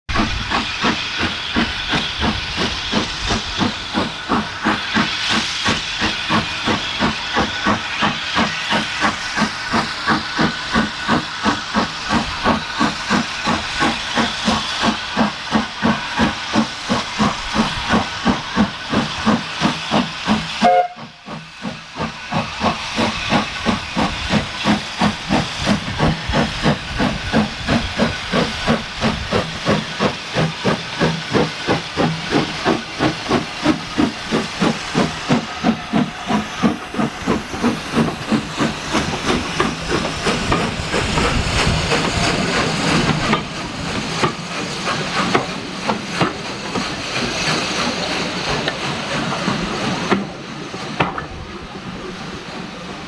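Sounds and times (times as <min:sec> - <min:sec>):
steam hissing: 0:00.1 - 0:53.0
steam locomotive exhaust beats: 0:00.1 - 0:53.0.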